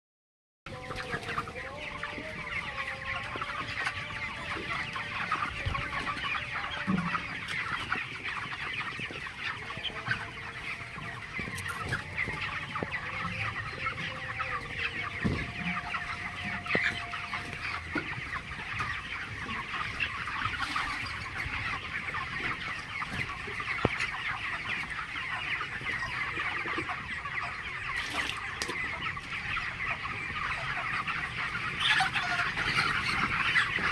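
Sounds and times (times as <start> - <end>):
chickens clucking: 0.7 - 33.9.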